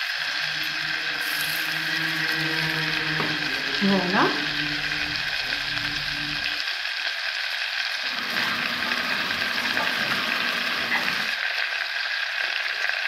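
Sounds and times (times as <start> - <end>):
butter sizzling in a pot: 0.0 - 13.0.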